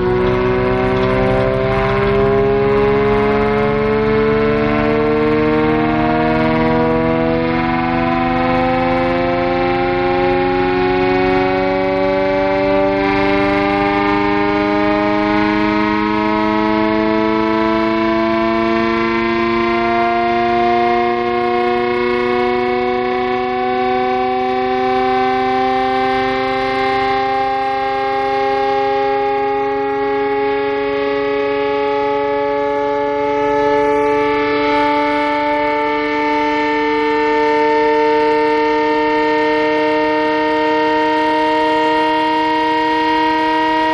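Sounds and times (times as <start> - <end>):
air raid siren: 0.0 - 43.9.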